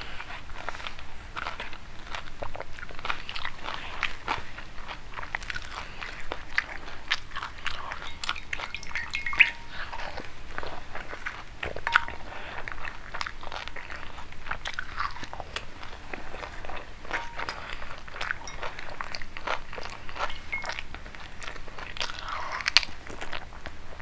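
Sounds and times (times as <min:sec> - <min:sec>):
crunching and chewing: 0:00.0 - 0:24.0.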